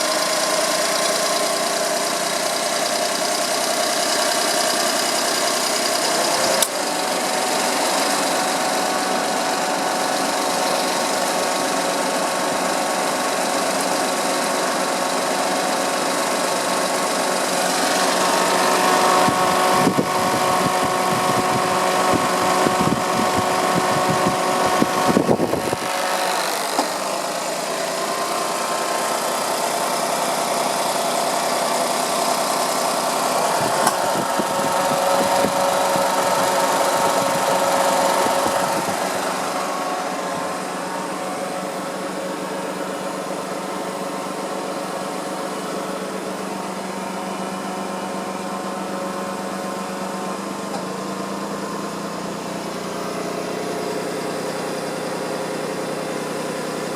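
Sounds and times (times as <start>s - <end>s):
small car engine idling: 0.0s - 56.9s.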